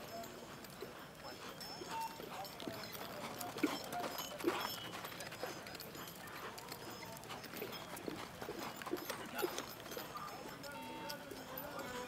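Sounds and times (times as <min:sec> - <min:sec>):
horse hoofbeats: 0:00.0 - 0:12.0.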